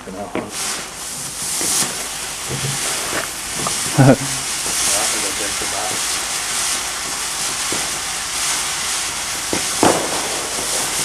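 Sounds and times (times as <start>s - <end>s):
firework hissing: 0.0s - 11.0s
firework pops: 0.3s - 5.2s, 5.9s - 11.0s.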